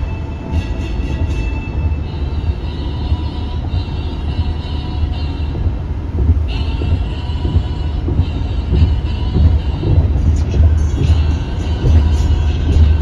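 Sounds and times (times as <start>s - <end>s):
jet engine high whine: 0.0s - 13.0s
jet engine low rumble: 0.0s - 13.0s.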